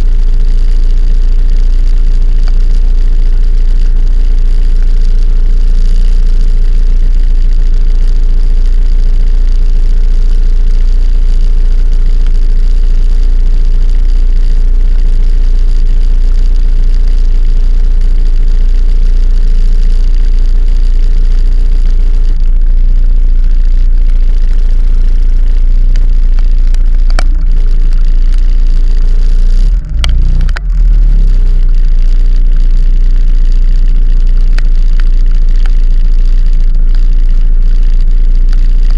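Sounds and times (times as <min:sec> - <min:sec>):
vehicle ride rumble: 0:00.0 - 0:38.9.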